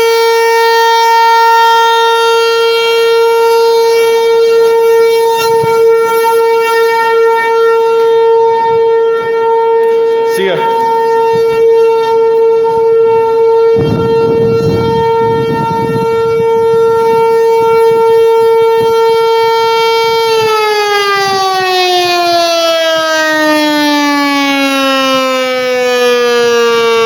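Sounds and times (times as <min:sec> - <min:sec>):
warning siren steady tone: 0:00.0 - 0:27.0.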